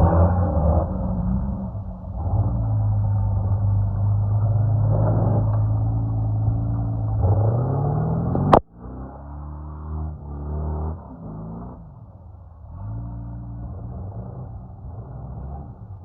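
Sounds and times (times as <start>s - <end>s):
vehicle engine revving under load: 0.0s - 16.0s.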